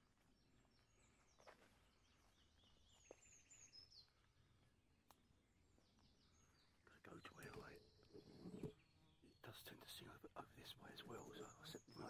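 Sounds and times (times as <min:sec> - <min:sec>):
nightingale song: 0:00.0 - 0:12.0.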